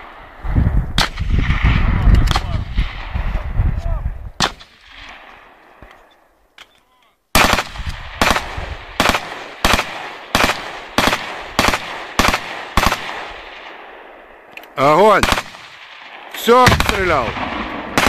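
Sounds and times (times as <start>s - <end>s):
rifle gunshots: 1.0s - 3.2s, 4.4s - 5.9s, 7.3s - 18.0s.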